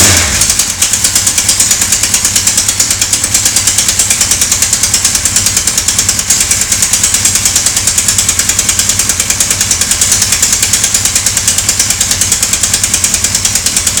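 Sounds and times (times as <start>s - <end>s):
motorcycle engine clattering: 0.0s - 14.0s.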